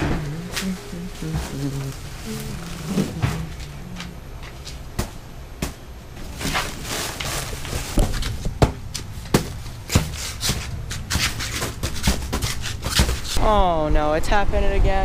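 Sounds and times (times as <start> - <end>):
steady low rumble: 0.0 - 12.3.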